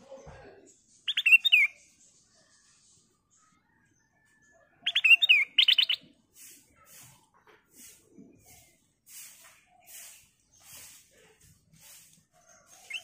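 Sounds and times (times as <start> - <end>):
bird chirping: 0.0 - 7.0, 7.8 - 13.0.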